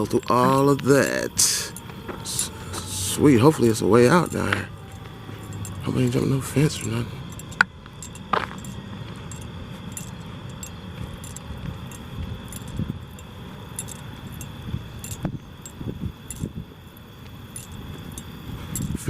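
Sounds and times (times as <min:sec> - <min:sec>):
footsteps on a path: 0:00.0 - 0:15.3
metallic jingle: 0:00.0 - 0:16.6, 0:17.5 - 0:19.0.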